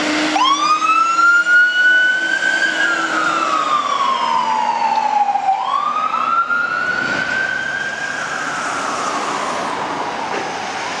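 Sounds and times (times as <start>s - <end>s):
fire truck siren wailing: 0.0s - 11.0s
road traffic noise: 0.0s - 11.0s.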